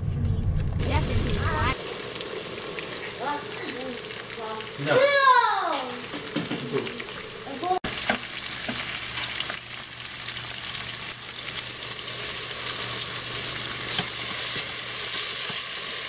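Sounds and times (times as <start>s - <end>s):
vegetables sizzling in hot oil: 0.8s - 16.0s.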